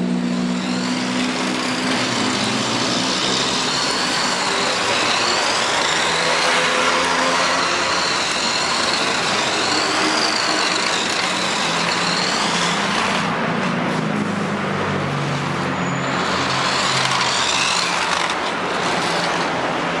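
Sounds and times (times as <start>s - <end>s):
toy car electric motor whining: 0.2s - 13.3s, 16.0s - 20.0s.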